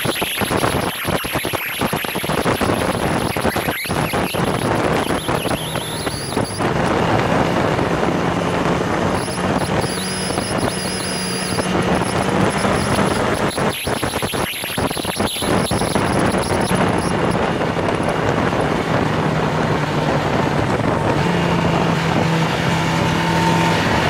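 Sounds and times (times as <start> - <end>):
wind rush: 0.0 - 24.0
motorcycle engine running hard: 2.0 - 13.8, 15.3 - 24.0.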